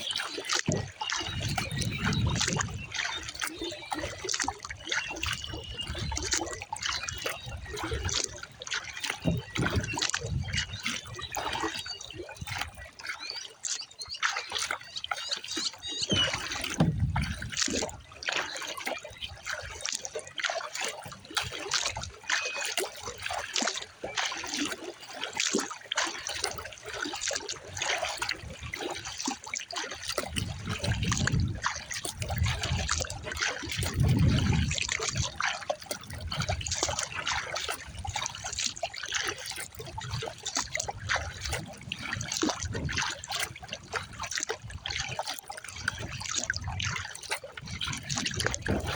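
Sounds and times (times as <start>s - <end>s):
water splashing off a paddle: 0.0s - 48.9s.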